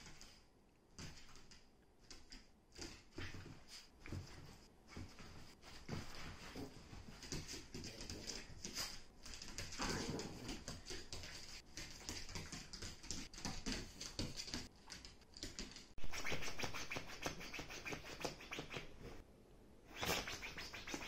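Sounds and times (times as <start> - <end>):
dog scrabbling at floor mat: 1.0 - 19.1.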